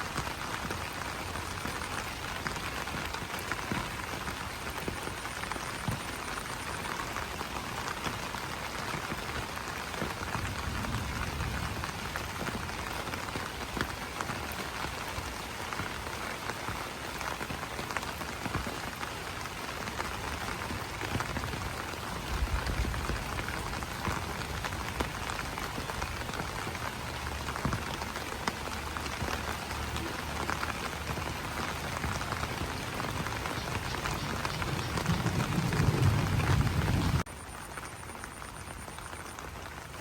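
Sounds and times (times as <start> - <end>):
rain pattering on leaves: 0.0 - 40.0.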